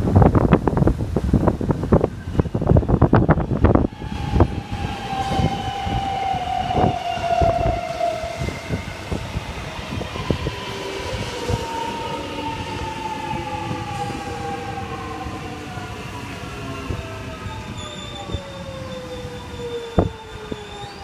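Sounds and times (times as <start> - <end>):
electric train motor whine: 2.3 - 21.0.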